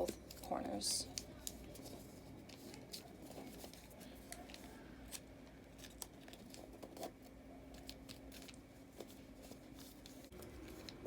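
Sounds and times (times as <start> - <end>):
paper folding rustles: 0.0 - 11.0.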